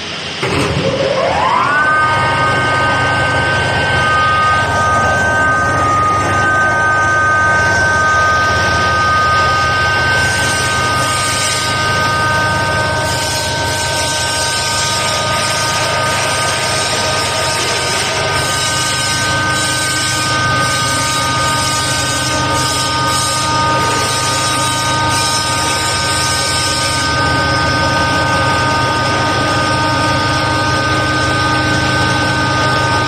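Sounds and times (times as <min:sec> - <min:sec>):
coffee grinder motor whining: 0:00.4 - 0:33.0.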